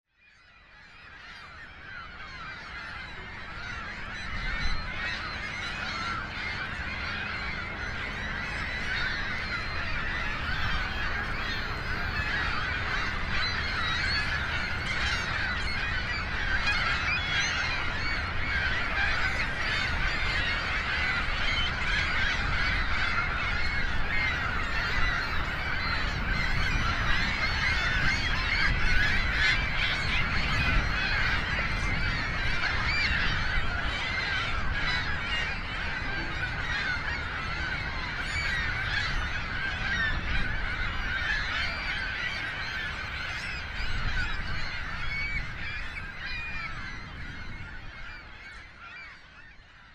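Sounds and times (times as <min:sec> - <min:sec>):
seabirds calling: 0:00.2 - 0:49.9.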